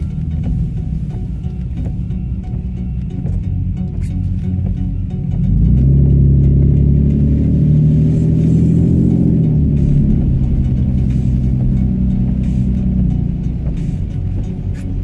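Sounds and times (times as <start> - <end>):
car driving rumble: 0.0 - 15.0
music playing: 0.0 - 15.0.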